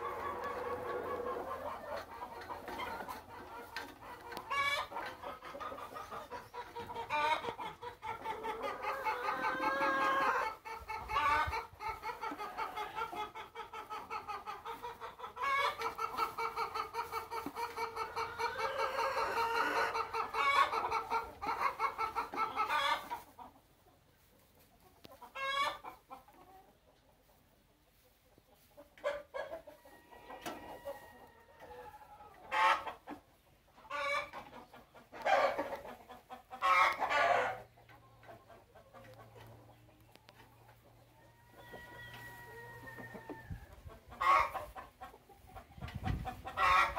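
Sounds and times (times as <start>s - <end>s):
hens clucking: 0.0s - 46.9s.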